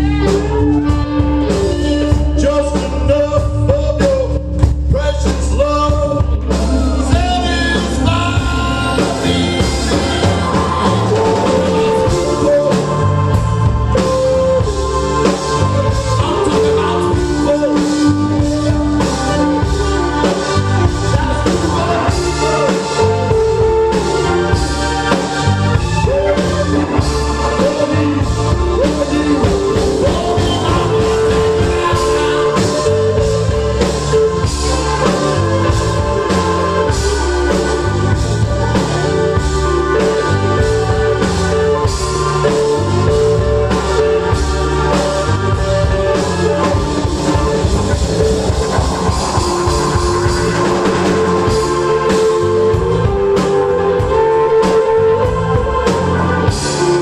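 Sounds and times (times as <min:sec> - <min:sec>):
drum kit: 0:00.0 - 0:57.0
electric and acoustic guitars: 0:00.0 - 0:57.0
organ holding long chords: 0:06.2 - 0:57.0.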